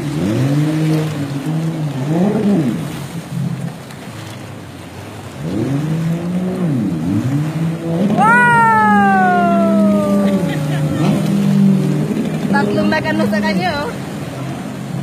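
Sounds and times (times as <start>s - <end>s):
jet ski engine revving: 0.0s - 15.0s
surf: 0.0s - 15.0s
wind: 0.0s - 15.0s.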